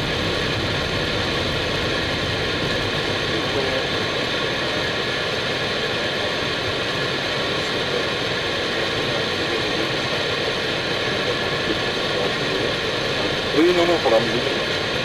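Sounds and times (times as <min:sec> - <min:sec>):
airflow rush in cockpit: 0:00.0 - 0:15.0.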